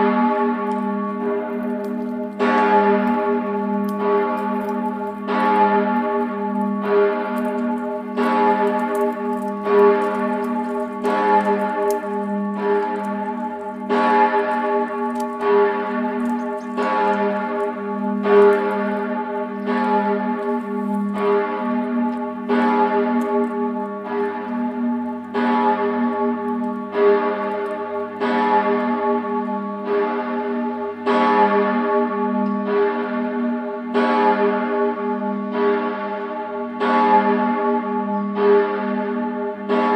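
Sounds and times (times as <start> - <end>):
church bell tolling: 0.0 - 39.9.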